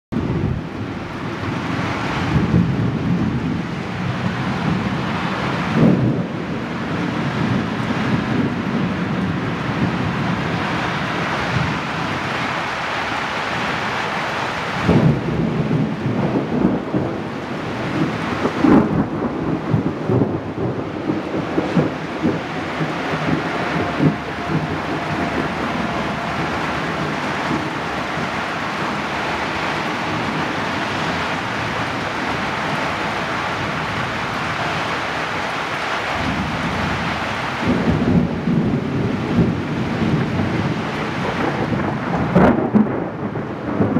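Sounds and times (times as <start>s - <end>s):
heavy rain: 0.1s - 43.9s
thunder rumbles: 0.1s - 43.9s.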